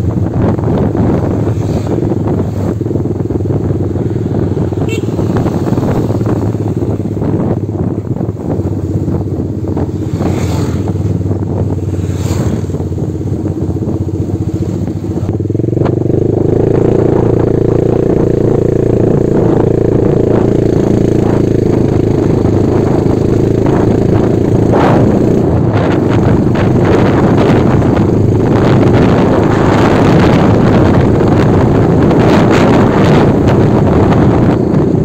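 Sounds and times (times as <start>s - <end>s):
motorcycle engine at road speed: 0.0s - 35.0s.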